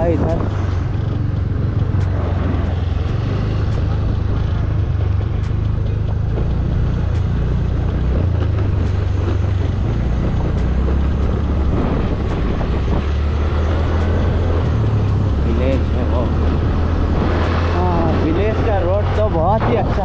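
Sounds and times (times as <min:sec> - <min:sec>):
scooter engine droning: 0:00.0 - 0:20.0.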